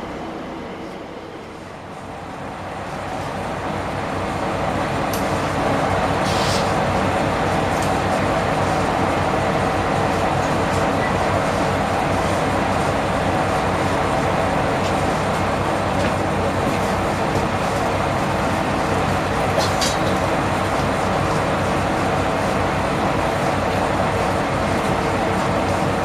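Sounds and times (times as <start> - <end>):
diesel railcar engine running: 0.0 - 26.0.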